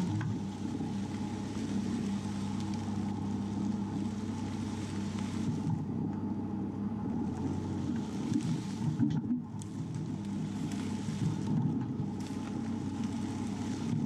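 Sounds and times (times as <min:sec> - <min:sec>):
car engine running under load: 0:00.0 - 0:14.0.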